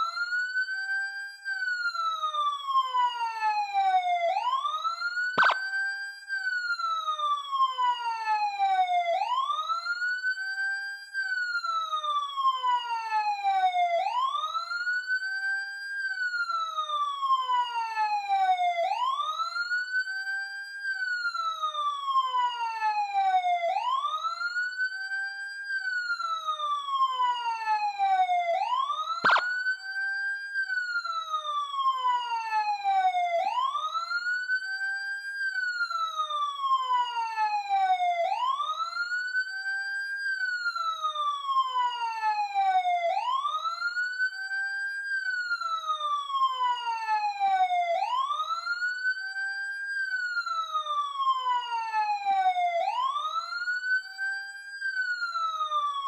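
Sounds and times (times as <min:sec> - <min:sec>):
police siren wailing: 0:00.0 - 0:56.0.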